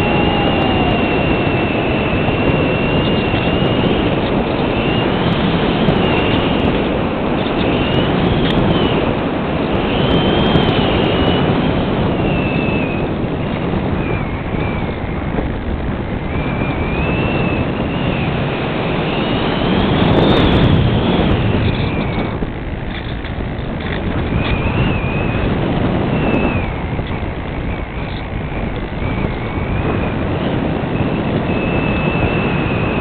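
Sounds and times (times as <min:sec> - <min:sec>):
electric motor and propeller whine: 0:00.0 - 0:33.0
wind rush on microphone: 0:00.0 - 0:33.0.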